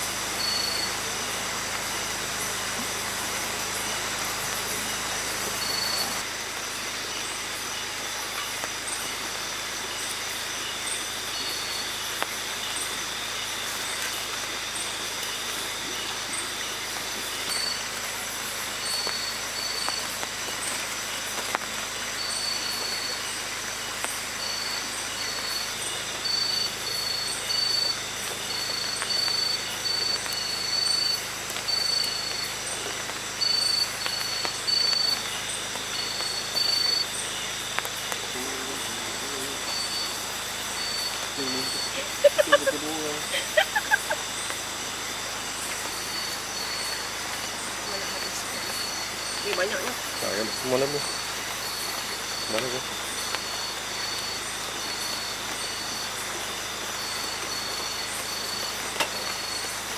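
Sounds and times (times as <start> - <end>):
insect chirp: 0.0 - 59.9
insects trilling: 0.0 - 59.9
pulsing insect trill: 0.0 - 59.9
steady hiss: 0.0 - 59.9.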